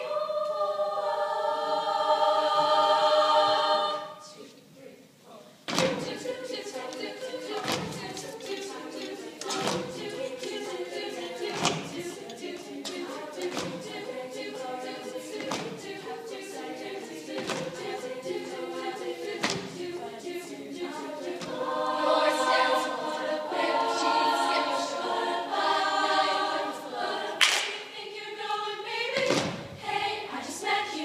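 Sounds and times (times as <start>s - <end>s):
girls' choir singing a cappella: 0.0s - 31.0s.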